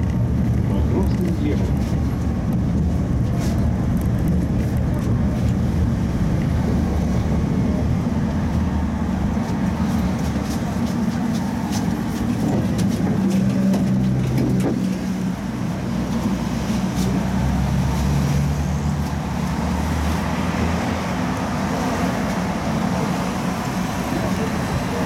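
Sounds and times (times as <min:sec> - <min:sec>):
tram low hum: 0:00.0 - 0:25.0.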